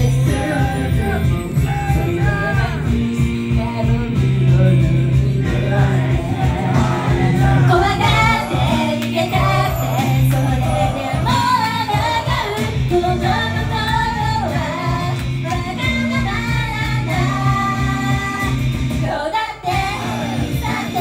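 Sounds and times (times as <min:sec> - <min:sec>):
woman singing: 0:00.0 - 0:06.3, 0:06.9 - 0:21.0
pop backing track with beat: 0:00.0 - 0:21.0.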